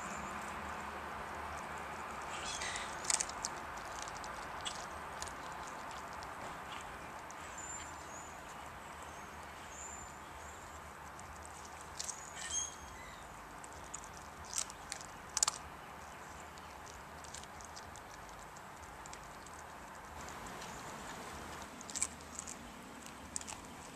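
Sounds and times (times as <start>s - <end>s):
dog chewing and crunching: 0.0s - 9.6s, 10.6s - 23.9s
background hiss: 0.0s - 23.9s.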